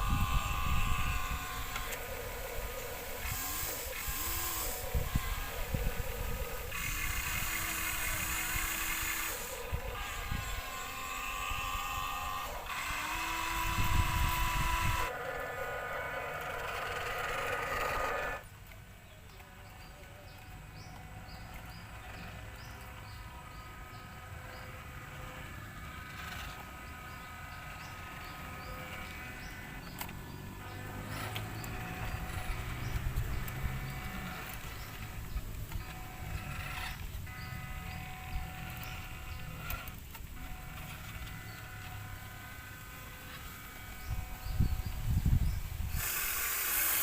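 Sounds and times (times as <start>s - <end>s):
toy gear motors whining: 0.0s - 47.0s.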